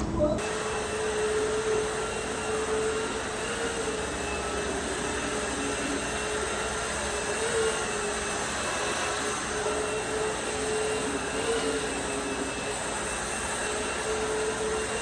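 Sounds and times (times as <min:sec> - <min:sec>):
motor-driven machine running: 0:00.0 - 0:15.0.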